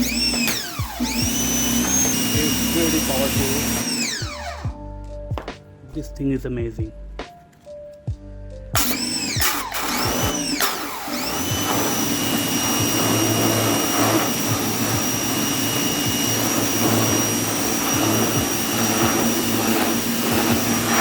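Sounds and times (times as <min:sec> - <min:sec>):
pressure washer motor whine: 0:00.0 - 0:04.8, 0:08.8 - 0:21.0.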